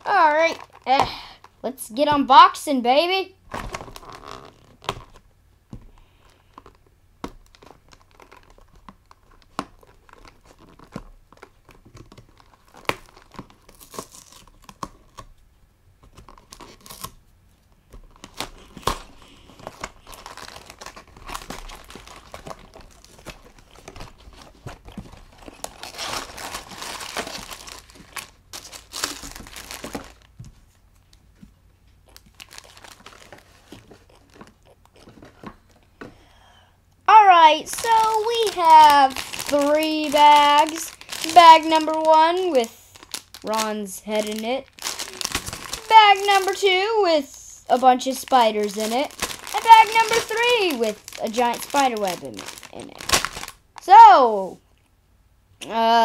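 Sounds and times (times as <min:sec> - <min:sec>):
plastic bags crinkling: 0:00.0 - 0:01.6, 0:03.5 - 0:05.2, 0:05.9 - 0:15.3, 0:17.9 - 0:30.7, 0:32.0 - 0:35.9, 0:37.1 - 0:54.0.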